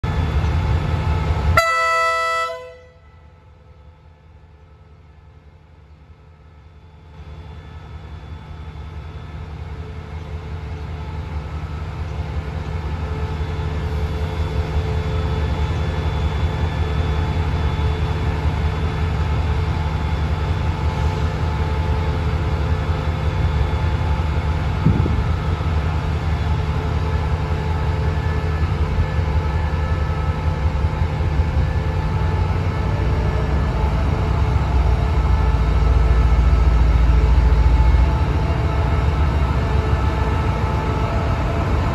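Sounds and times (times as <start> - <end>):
engine whine: 7.0 - 41.9.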